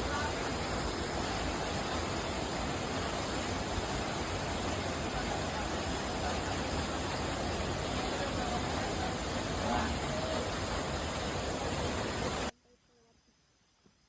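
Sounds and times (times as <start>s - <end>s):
water rushing: 0.0s - 12.5s.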